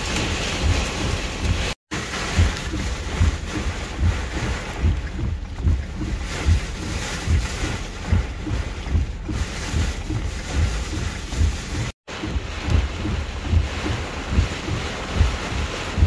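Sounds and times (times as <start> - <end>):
wind and heavy rain on vehicle: 0.0 - 16.0.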